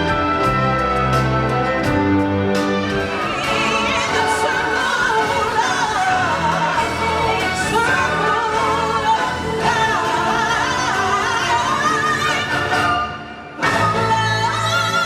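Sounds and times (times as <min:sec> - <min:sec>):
orchestral accompaniment: 0:00.0 - 0:15.0.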